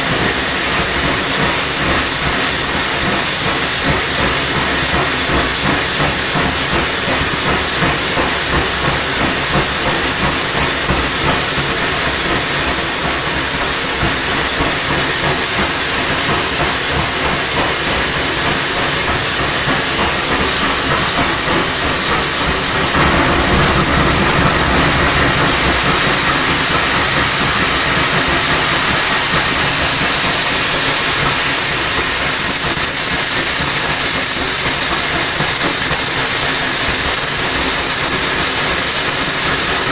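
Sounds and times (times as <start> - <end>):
high turbine whine: 0.0 - 39.9
model jet engine roaring: 0.0 - 39.9.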